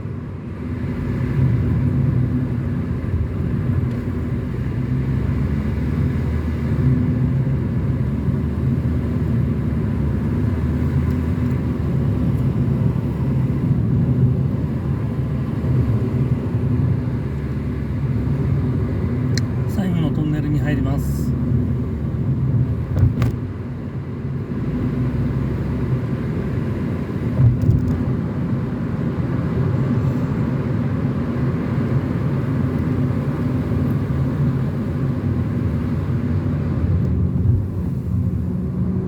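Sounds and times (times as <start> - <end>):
car driving: 0.0 - 39.0.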